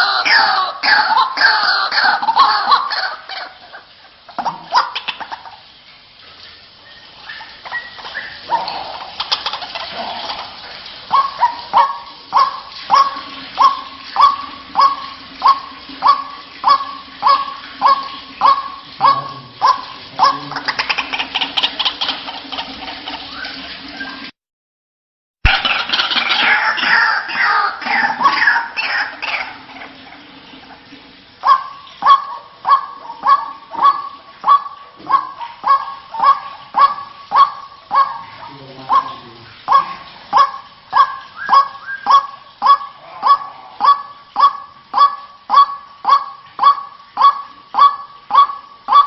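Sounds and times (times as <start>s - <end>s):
waterhen calling: 0.0s - 24.3s, 25.4s - 49.0s.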